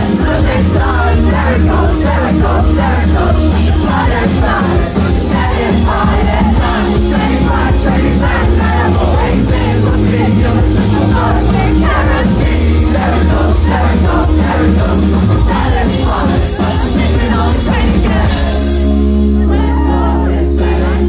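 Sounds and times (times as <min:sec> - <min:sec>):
drums: 0:00.0 - 0:21.0
heavy bass: 0:00.0 - 0:21.0
voices singing: 0:00.0 - 0:21.0.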